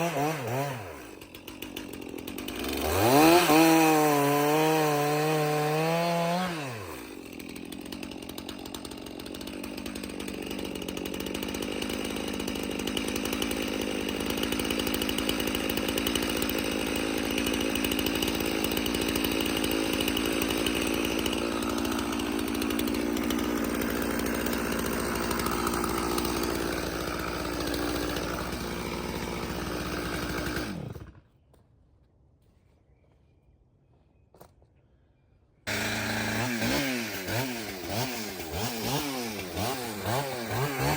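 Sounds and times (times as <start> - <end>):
chainsaw cutting log: 0.0 - 31.4, 35.7 - 40.9.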